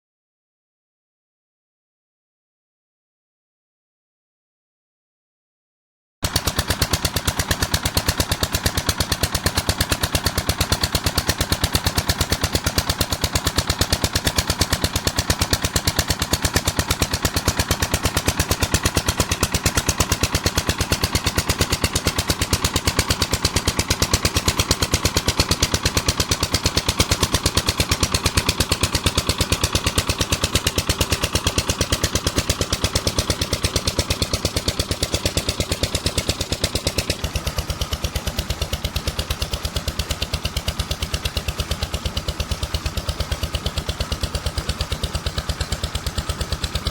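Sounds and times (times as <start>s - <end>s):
diesel engine running: 6.2s - 46.9s.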